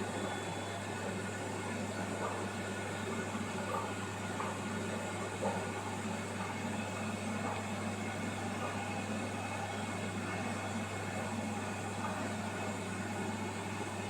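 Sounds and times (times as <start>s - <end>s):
aquarium filter humming: 0.0s - 14.0s.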